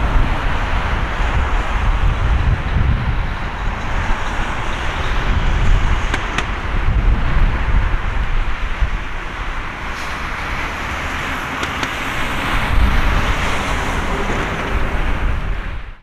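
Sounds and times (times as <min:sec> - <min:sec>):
jet engine roar: 0:00.0 - 0:15.8.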